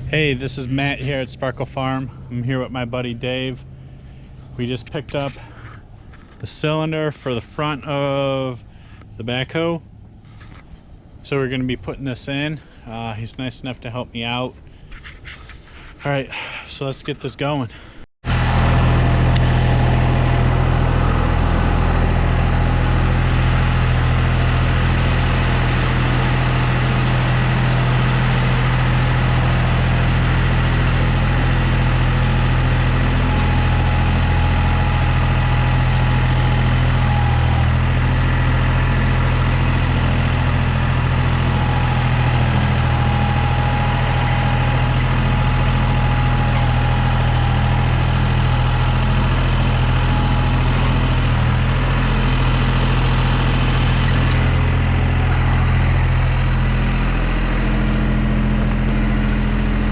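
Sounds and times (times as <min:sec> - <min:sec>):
backhoe engine idling: 0:00.0 - 0:09.1, 0:18.3 - 0:59.9.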